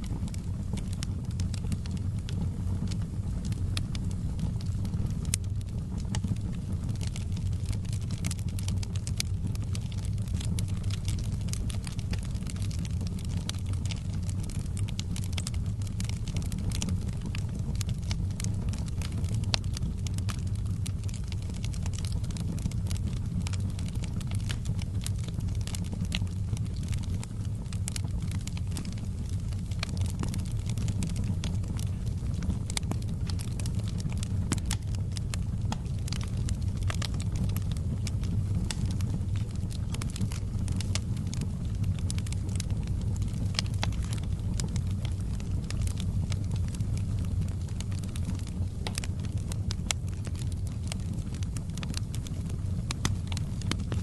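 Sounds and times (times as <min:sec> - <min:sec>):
fire flames rumbling: 0:00.0 - 0:54.0
logs crackling and popping: 0:00.0 - 0:54.0.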